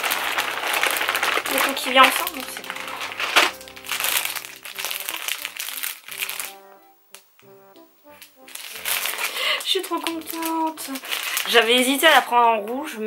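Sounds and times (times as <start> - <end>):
instrumental tune: 0.0 - 10.7
plastic bag crinkling: 0.0 - 13.0.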